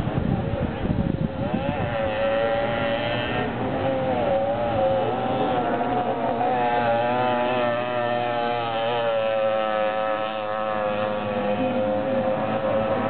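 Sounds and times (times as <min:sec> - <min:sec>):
moped engine buzzing: 0:00.0 - 0:13.0.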